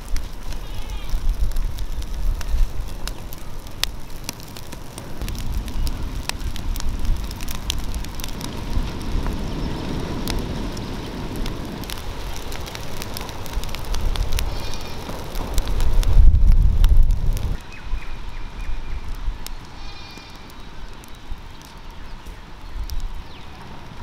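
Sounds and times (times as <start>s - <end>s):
fire crackling and popping: 0.0s - 24.0s
low hiss of burning: 0.0s - 24.0s.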